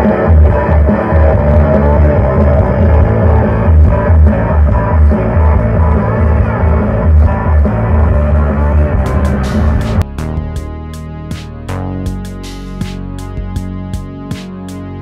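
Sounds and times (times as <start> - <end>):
loud music with heavy pulsing bass: 0.0 - 15.0.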